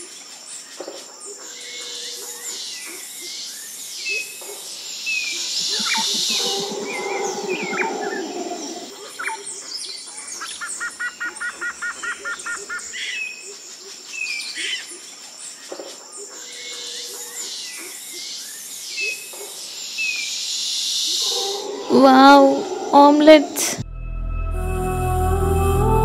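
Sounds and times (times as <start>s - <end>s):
birds chirping: 0.0s - 23.8s.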